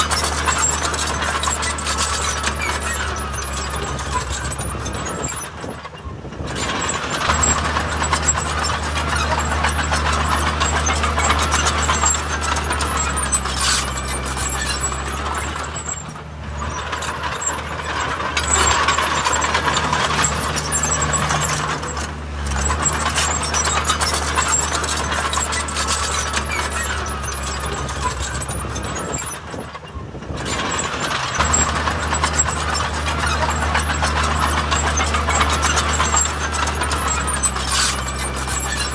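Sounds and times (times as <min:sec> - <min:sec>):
heavy diesel engines running: 0:00.0 - 0:38.9
mechanical noise: 0:00.0 - 0:38.9.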